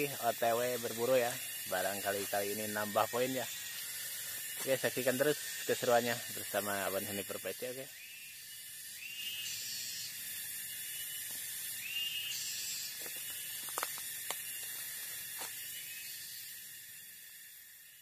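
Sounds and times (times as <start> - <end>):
insects buzzing: 0.0 - 18.0
short rising insect calls: 0.0 - 18.0.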